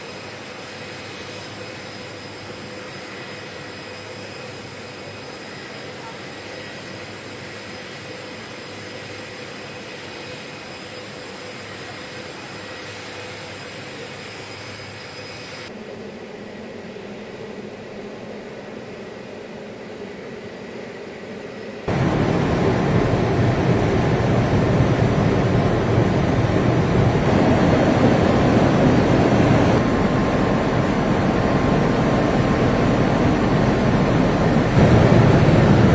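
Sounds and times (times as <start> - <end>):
aircraft engine drone: 0.0 - 35.9.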